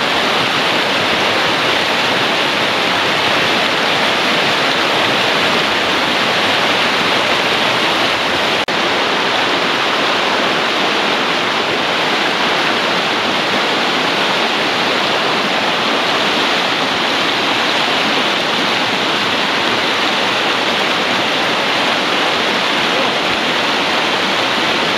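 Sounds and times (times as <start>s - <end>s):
water rushing over rocks: 0.0s - 24.9s.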